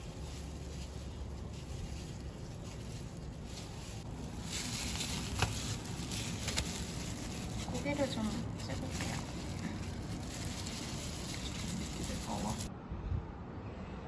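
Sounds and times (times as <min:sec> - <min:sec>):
hands squishing meat filling: 0:00.0 - 0:12.7
plastic gloves crinkling: 0:00.0 - 0:12.7.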